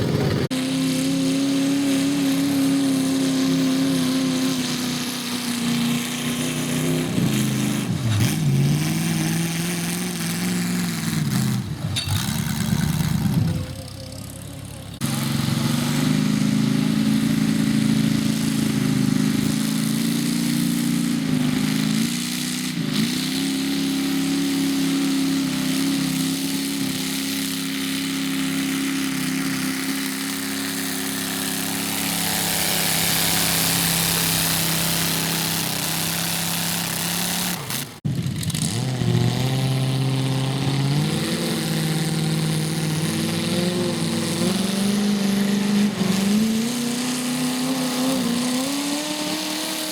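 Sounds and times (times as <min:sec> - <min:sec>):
garden tractor engine running: 0:00.0 - 0:49.9.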